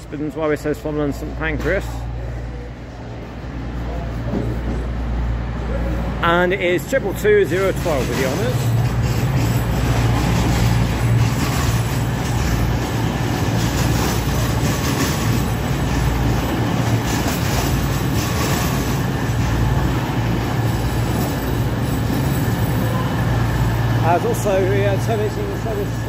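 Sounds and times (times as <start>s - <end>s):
diesel train engine drone: 0.0s - 26.0s
train wheels rumbling on rail: 0.0s - 26.0s.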